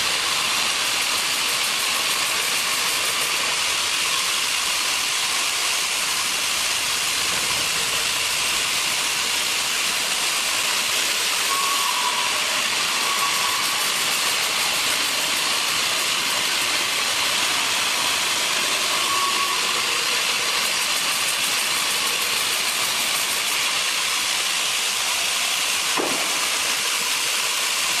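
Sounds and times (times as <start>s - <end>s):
band sawmill running: 0.0s - 28.0s.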